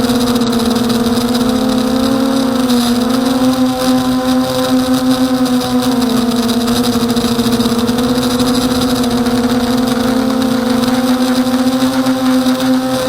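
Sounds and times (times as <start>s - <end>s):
quadcopter buzzing whine: 0.0s - 13.0s.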